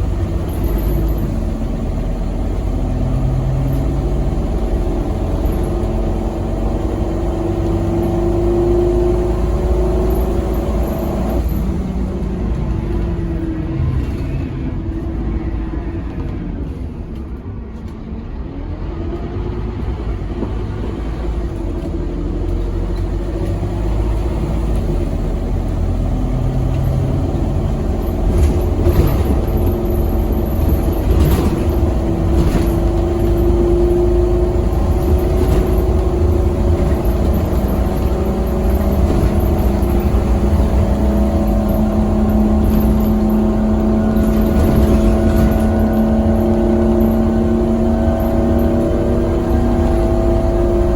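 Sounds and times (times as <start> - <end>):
bus body rattling: 0.0 - 50.9
bus diesel engine accelerating: 0.0 - 50.9.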